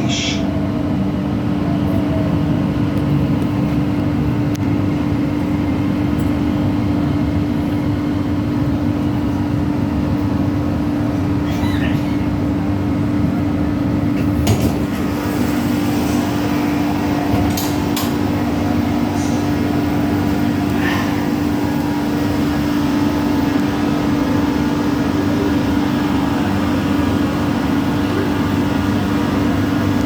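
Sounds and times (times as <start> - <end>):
train car machinery drone: 0.0 - 30.0.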